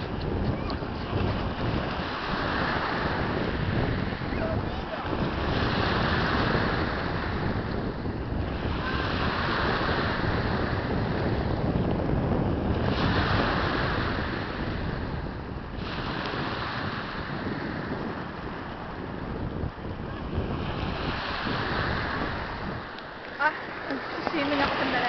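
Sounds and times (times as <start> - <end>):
waves washing up pebble beach: 0.0 - 25.0
wind buffeting microphone: 0.0 - 25.0.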